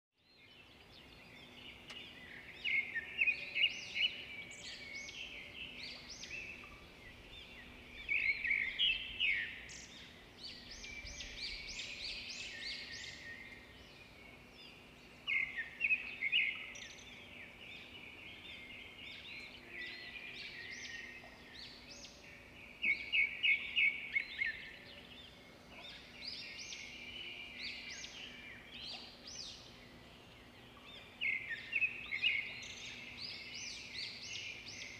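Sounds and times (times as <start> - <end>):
small birds chirping and trilling: 0.2 - 34.9.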